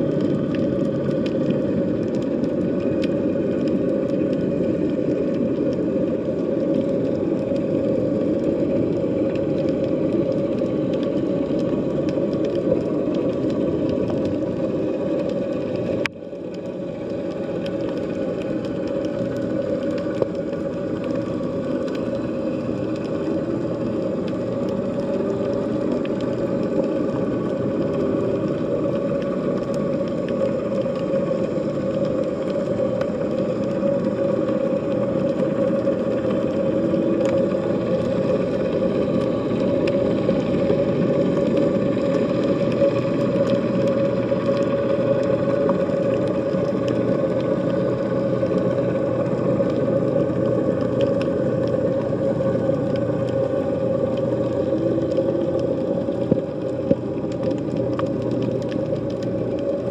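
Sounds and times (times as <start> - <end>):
underwater low drone: 0.0 - 59.9.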